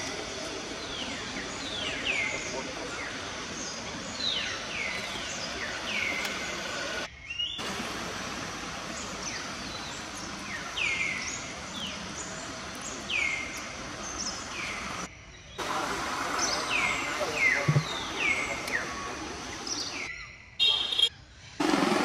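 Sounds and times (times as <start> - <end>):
birds calling: 0.0 - 21.1
steady outdoor hiss: 0.0 - 22.0.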